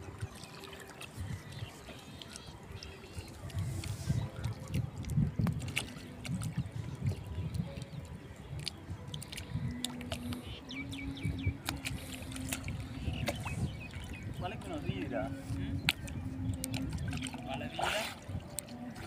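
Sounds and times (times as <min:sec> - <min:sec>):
water lapping around canoes: 0:00.0 - 0:19.0.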